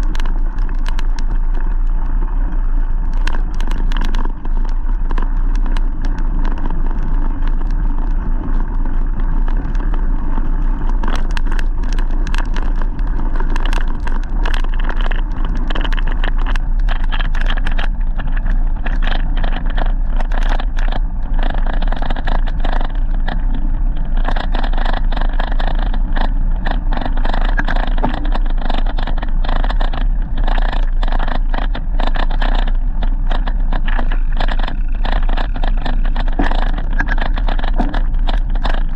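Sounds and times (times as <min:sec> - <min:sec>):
bike rattles and knocks: 0:00.0 - 0:38.9
bike riding noise: 0:00.0 - 0:38.9
wind rumbling on microphone: 0:00.0 - 0:38.9.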